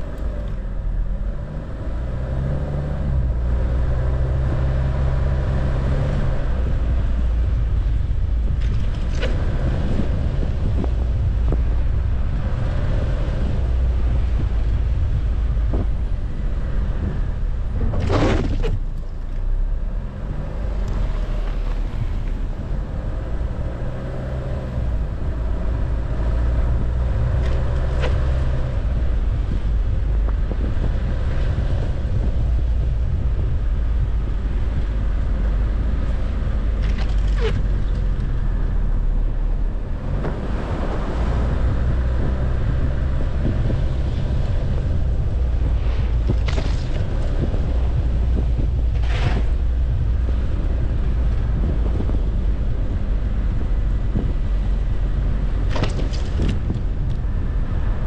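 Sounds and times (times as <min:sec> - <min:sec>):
car driving on snow: 0:00.0 - 0:58.0.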